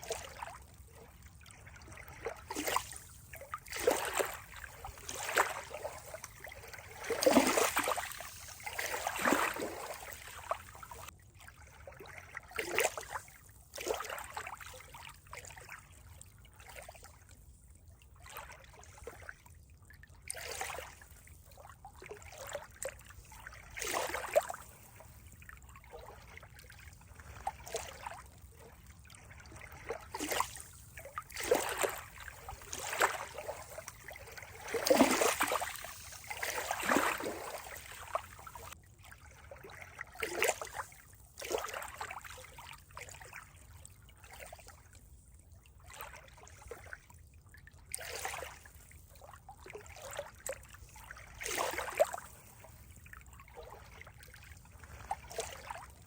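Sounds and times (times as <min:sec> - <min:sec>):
water splashing and lapping: 0:00.0 - 0:56.0.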